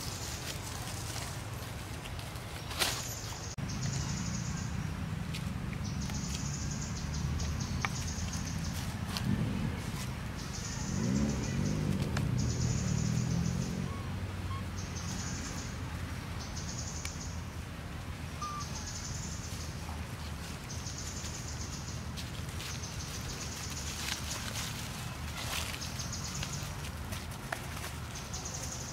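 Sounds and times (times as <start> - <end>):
low steady rumble: 3.6 - 28.4.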